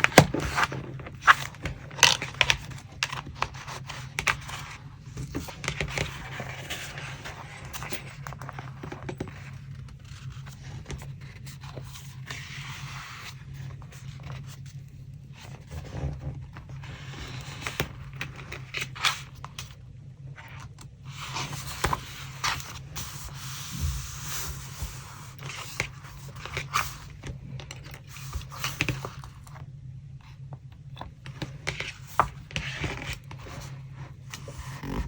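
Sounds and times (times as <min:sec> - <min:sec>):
paper rustling and scraping: 0:00.0 - 0:19.3, 0:20.4 - 0:29.6, 0:31.0 - 0:35.0.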